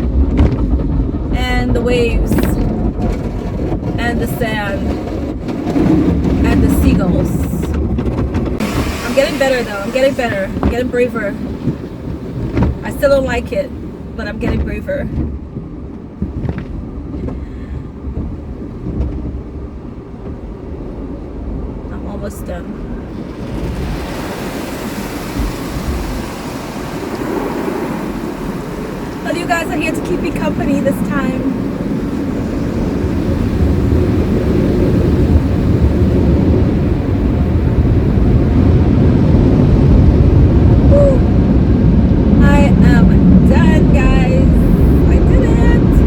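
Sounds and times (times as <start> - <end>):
car wash low rumble: 0.0 - 46.0.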